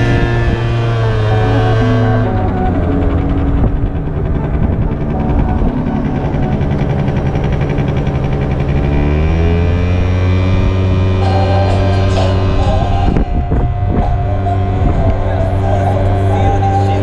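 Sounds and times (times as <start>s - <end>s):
scooter engine revving: 0.0s - 17.0s.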